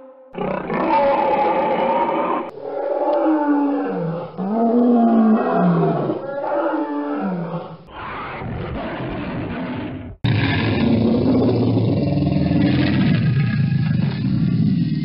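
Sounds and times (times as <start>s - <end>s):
dinosaur roars: 0.4s - 15.0s.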